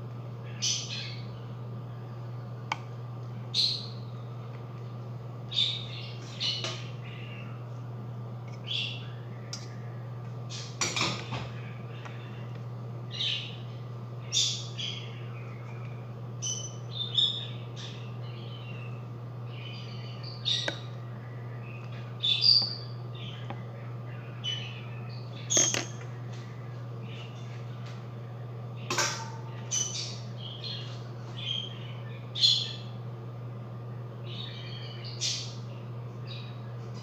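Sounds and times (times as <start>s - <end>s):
steady low hum: 0.0s - 37.0s
birds chirping: 0.4s - 37.0s.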